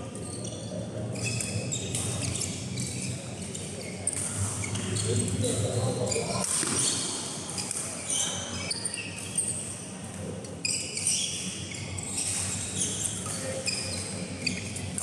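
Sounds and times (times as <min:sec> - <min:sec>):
shoes squeaking on court: 0:00.2 - 0:09.9, 0:10.6 - 0:15.0.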